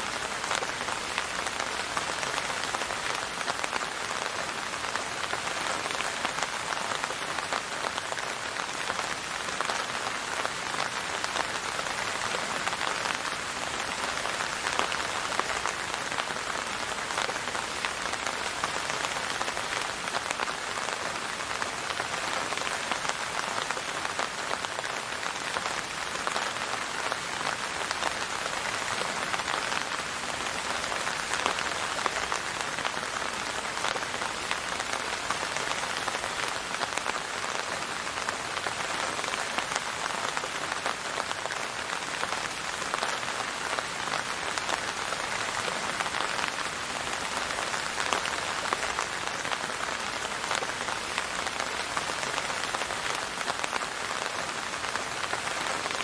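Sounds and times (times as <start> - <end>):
rain patter on a surface: 0.0 - 56.0.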